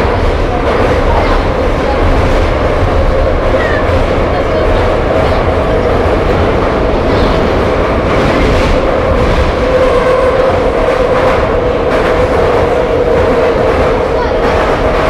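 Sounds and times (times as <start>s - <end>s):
metro train wheels rumbling on rails: 0.0s - 15.0s.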